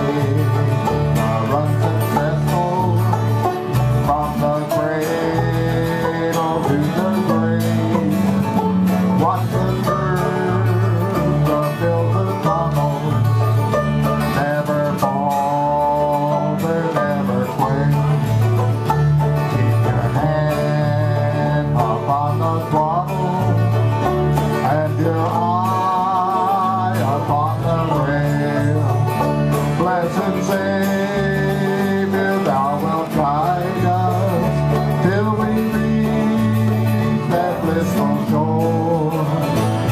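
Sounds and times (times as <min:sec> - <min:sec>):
acoustic guitar strumming: 0:00.0 - 0:39.9
banjo picking: 0:00.0 - 0:39.9
electric bass guitar: 0:00.0 - 0:39.9.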